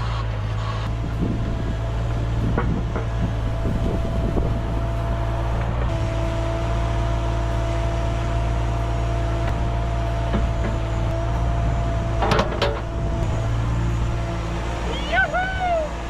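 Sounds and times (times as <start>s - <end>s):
excavator diesel engine running: 0.0s - 16.0s
lower whine: 0.8s - 16.0s.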